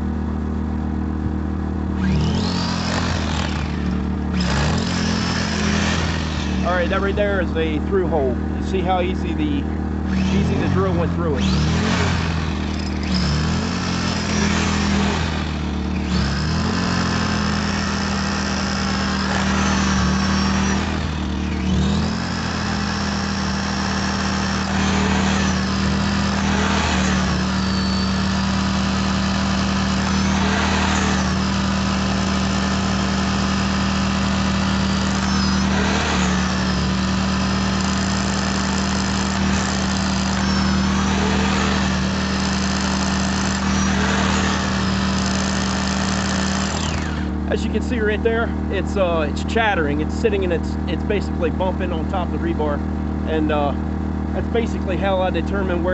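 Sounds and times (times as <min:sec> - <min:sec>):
generator engine hum: 0:00.0 - 0:55.9
rotary hammer drilling concrete: 0:01.9 - 0:52.6, 0:53.3 - 0:55.9.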